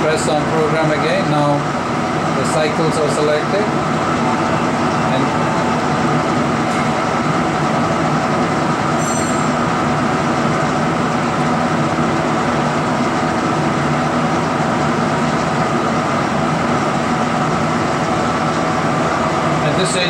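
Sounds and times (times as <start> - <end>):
equipment humming and whirring: 0.0 - 20.0.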